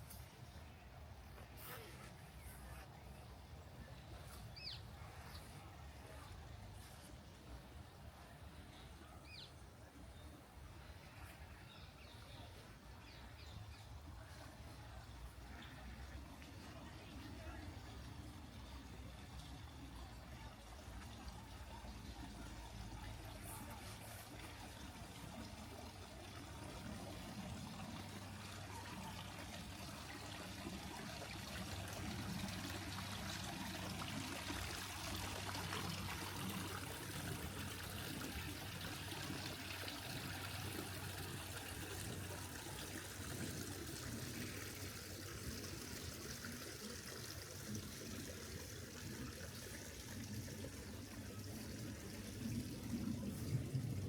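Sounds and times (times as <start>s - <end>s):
waterfall trickling and splashing: 9.2s - 54.0s.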